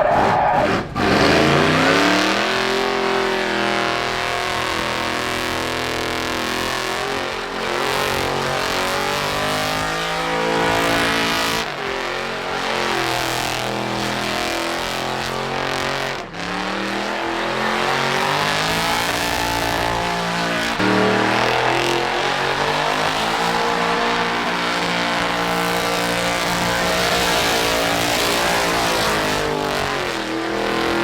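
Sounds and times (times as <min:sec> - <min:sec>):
diesel truck engines revving: 0:00.0 - 0:31.0.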